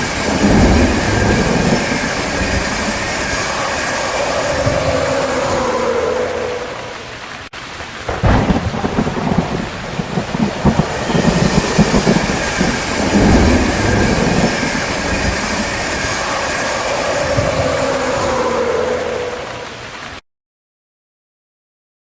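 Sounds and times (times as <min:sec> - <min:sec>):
rolling thunder: 0:00.0 - 0:20.0
rain falling: 0:00.0 - 0:20.2.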